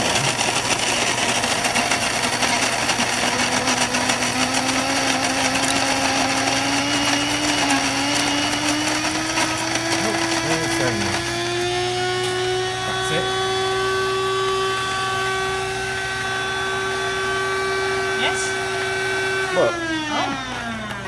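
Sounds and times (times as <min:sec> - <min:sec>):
coffee grinder running: 0:00.0 - 0:21.0.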